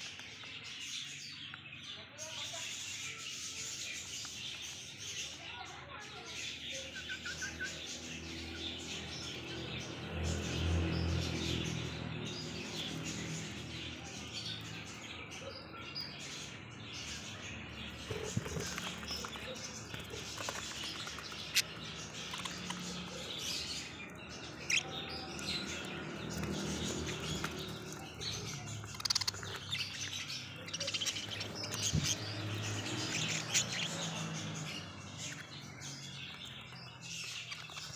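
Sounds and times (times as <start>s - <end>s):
budgerigars chirping and warbling: 0.0s - 37.9s.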